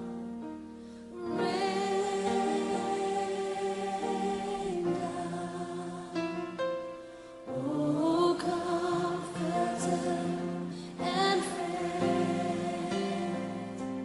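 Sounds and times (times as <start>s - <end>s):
choir singing slow piece: 1.1s - 14.0s.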